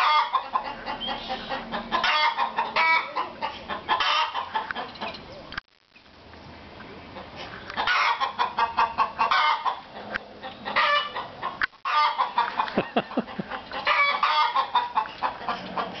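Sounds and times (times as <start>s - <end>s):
hen clucking and cackling: 0.0s - 5.4s, 7.0s - 16.0s.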